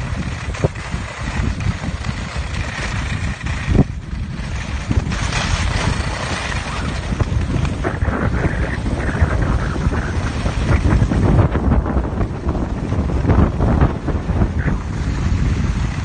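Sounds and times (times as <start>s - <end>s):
skis sliding on snow: 0.0s - 16.0s
wind buffeting microphone: 0.0s - 16.0s.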